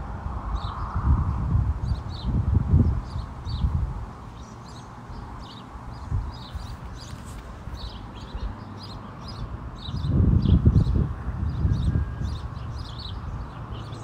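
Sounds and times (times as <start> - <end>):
small birds chirping: 0.5 - 14.0.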